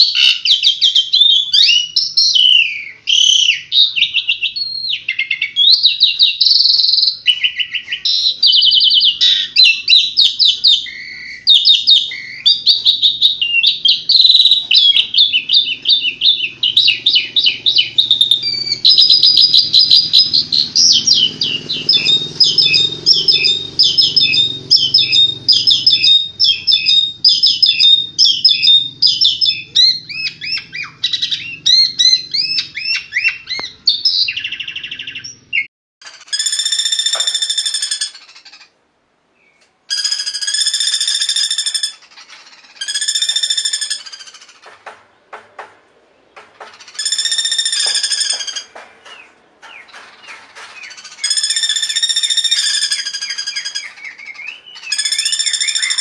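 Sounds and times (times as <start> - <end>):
bird buzzy rasping calls: 0.0 - 38.8, 39.9 - 56.0
bird chirping rapidly: 0.0 - 38.8, 39.4 - 45.3, 46.1 - 56.0.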